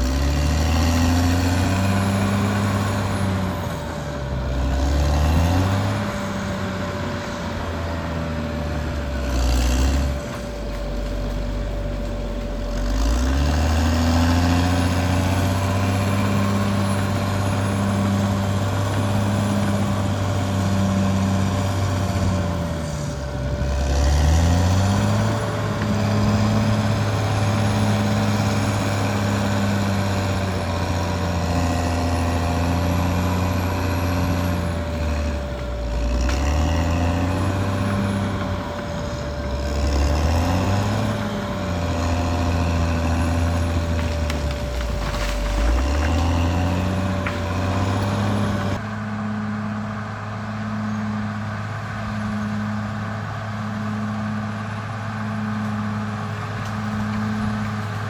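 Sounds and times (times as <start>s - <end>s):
bulldozer diesel engine lugging: 0.0s - 58.0s.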